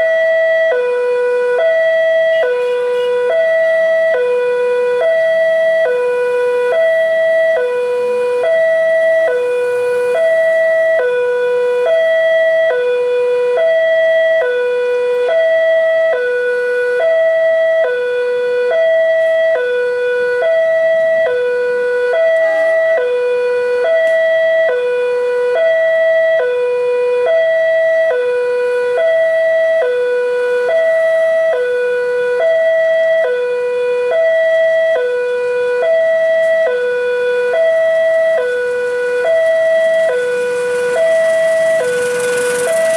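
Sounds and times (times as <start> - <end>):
level crossing two-tone alarm: 0.0 - 42.9.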